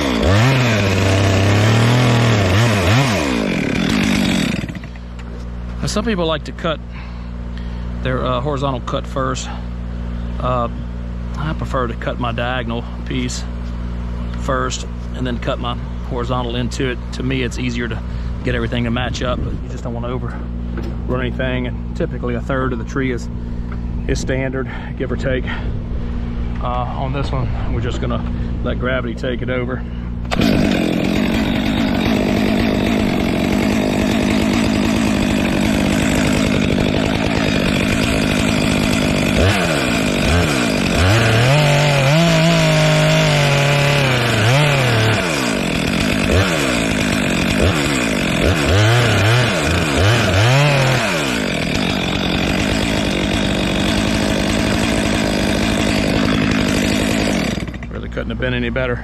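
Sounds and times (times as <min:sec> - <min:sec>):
chainsaw cutting: 0:00.0 - 0:23.8, 0:30.1 - 0:58.3.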